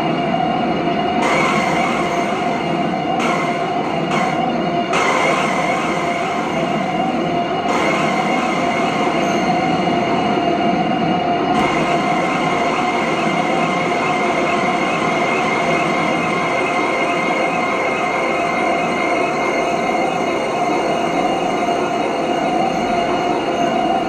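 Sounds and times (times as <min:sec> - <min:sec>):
dense noisy electronic drone: 0:00.0 - 0:24.0.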